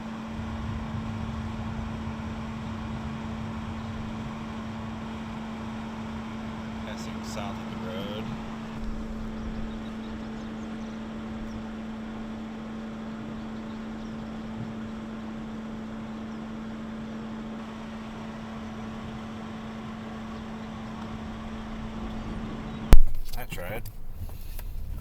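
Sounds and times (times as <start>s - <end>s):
road noise: 0.0s - 25.0s
vehicle engine humming: 0.0s - 25.0s.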